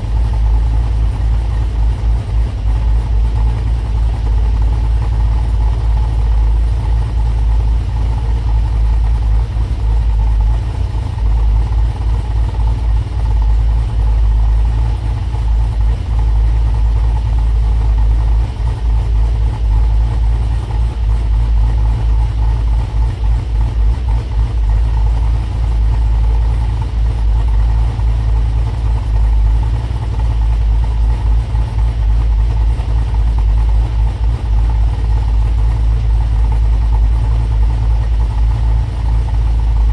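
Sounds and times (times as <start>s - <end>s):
car engine idling with choppy lope: 0.0s - 39.9s.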